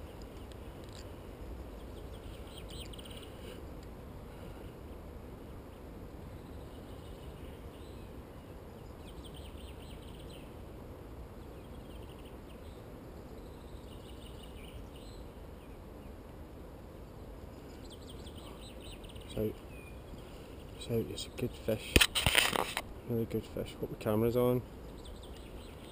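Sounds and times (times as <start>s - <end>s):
small songbirds twittering: 0.0s - 4.8s, 5.4s - 10.6s, 11.3s - 16.3s, 16.9s - 21.9s, 22.9s - 25.9s
low outdoor rumble: 0.0s - 21.9s.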